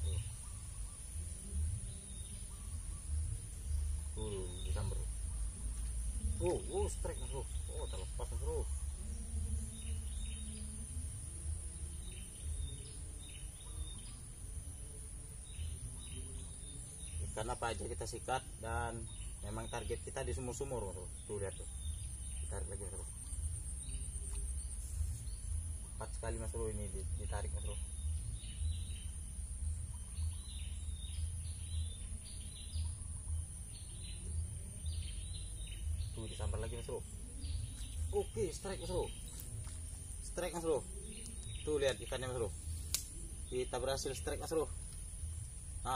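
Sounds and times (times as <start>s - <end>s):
small birds chirping: 0.0s - 45.9s
steady high-pitched hiss: 0.0s - 45.9s
steady low rumble: 0.0s - 45.9s.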